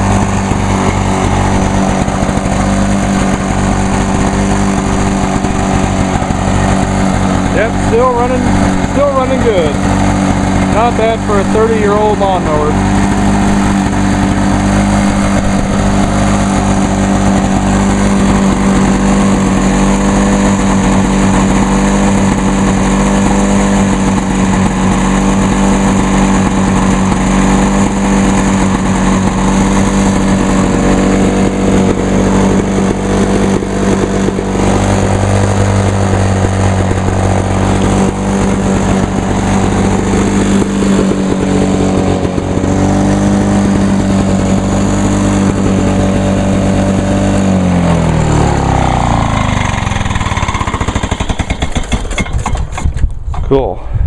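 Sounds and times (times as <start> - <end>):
lawn mower engine running: 0.0 - 53.8.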